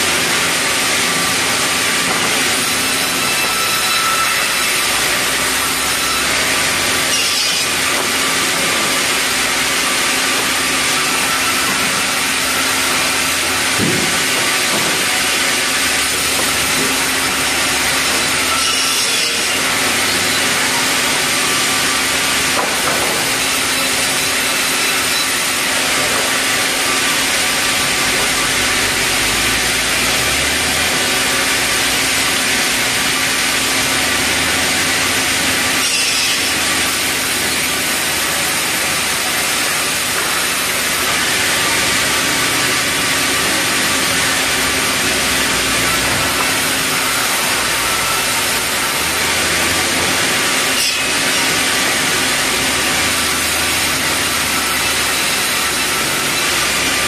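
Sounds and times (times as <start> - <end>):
band saw ripping timber: 0.0 - 57.0.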